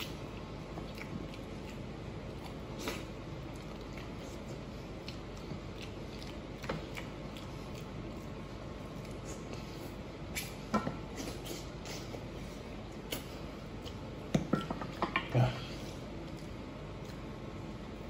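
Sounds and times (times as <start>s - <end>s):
wet chewing and smacking: 0.0s - 14.6s, 16.1s - 18.0s.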